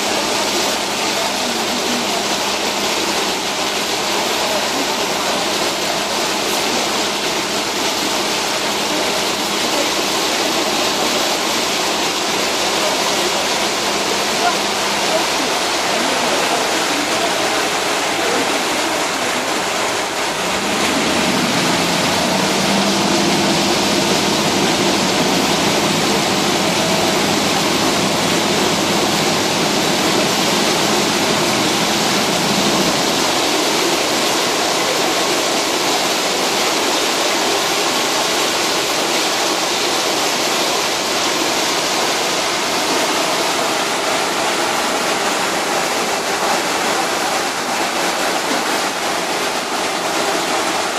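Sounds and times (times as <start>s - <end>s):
water rushing along boat hull: 0.0s - 50.9s.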